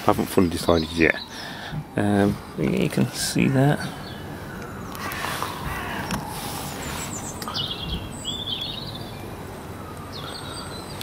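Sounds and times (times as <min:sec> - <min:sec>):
outdoor background noise: 0:00.0 - 0:11.0
small birds chirping: 0:00.4 - 0:11.0.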